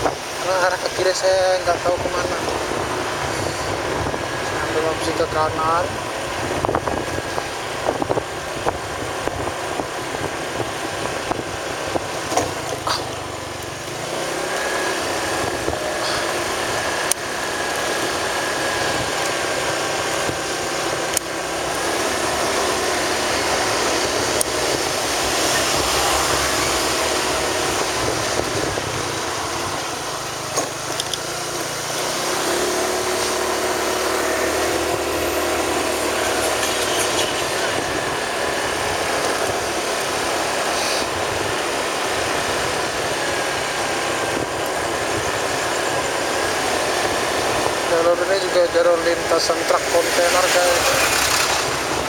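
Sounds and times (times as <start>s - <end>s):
road noise: 0.0s - 52.0s
vehicle engine running: 0.0s - 52.0s.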